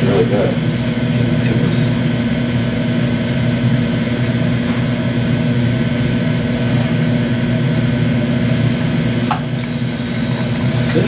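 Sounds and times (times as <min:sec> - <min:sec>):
gas burner flame roaring: 0:00.0 - 0:11.0.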